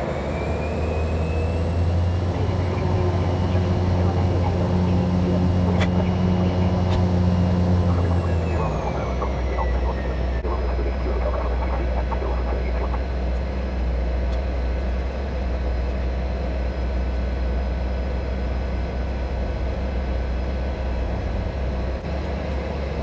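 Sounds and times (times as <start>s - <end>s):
turboprop engine droning: 0.0s - 23.0s.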